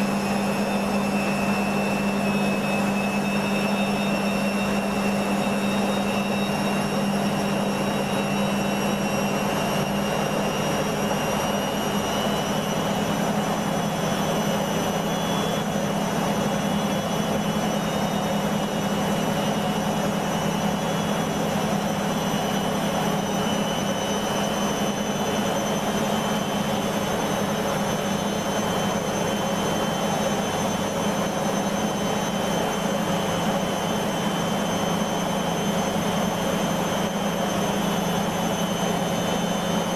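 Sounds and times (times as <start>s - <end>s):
high whine rising in pitch: 0.0s - 39.9s
washing machine spinning: 0.0s - 39.9s.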